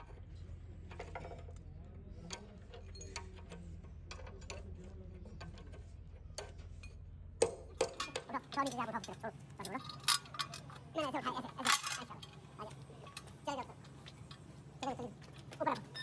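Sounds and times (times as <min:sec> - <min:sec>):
steady low hum: 0:00.0 - 0:16.0
metal clicking and tapping: 0:02.2 - 0:15.6.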